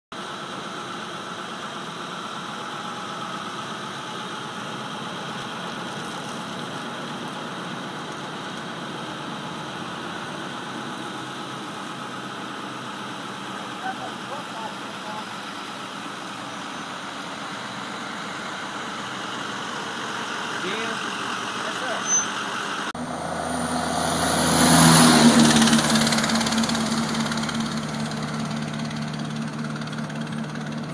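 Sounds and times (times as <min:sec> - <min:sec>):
truck engine idling with hiss: 0:00.2 - 0:23.9, 0:25.2 - 0:30.9.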